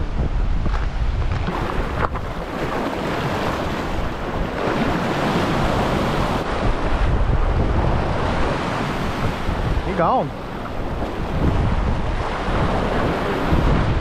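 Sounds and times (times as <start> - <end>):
wind buffeting microphone: 0.0 - 14.0
surf breaking against rocks: 0.6 - 14.0.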